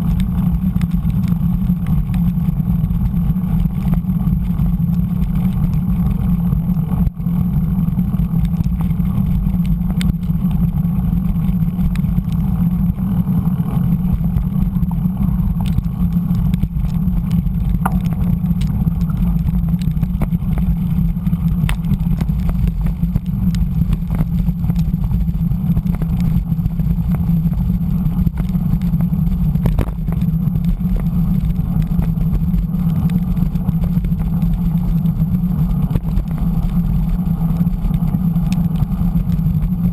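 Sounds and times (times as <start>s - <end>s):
bike tyres rolling on gravel: 0.0s - 39.9s
clicks of grit and stones: 0.0s - 39.9s.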